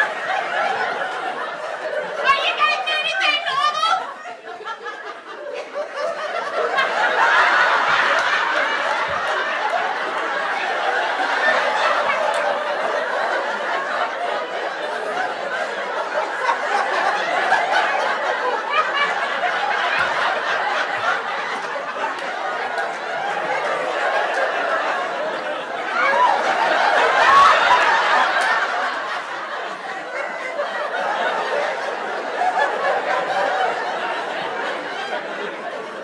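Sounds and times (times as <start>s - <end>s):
crowd laughing: 0.0s - 36.0s.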